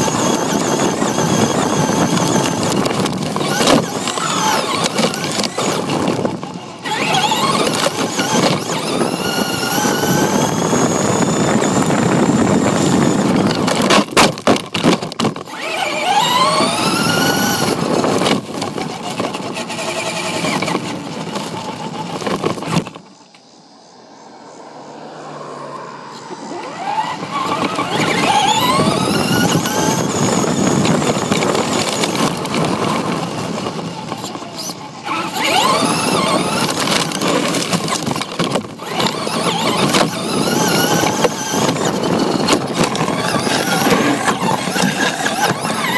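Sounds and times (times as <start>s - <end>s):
tyres rumbling on gravel: 0.0s - 23.3s, 26.2s - 45.9s
rc car motor whining: 0.0s - 23.4s, 26.1s - 45.9s.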